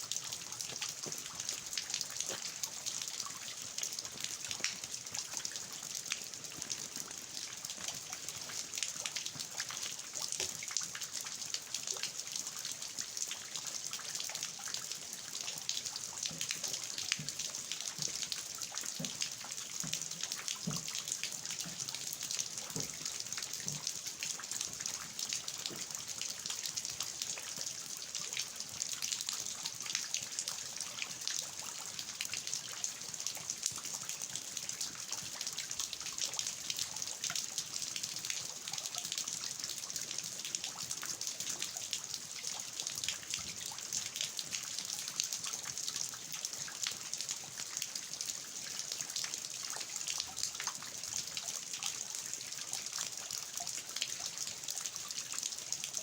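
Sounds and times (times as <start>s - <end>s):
rainwater dripping from eaves: 0.0s - 56.0s
steady rain falling: 0.0s - 56.0s.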